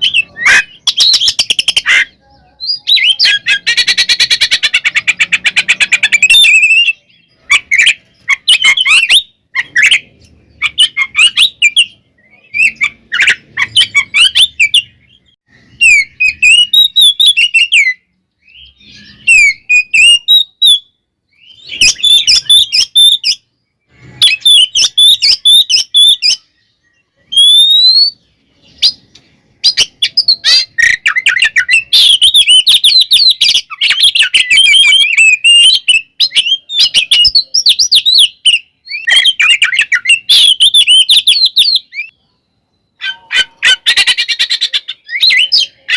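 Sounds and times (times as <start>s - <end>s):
bird singing whistled phrases: 0.0s - 45.9s.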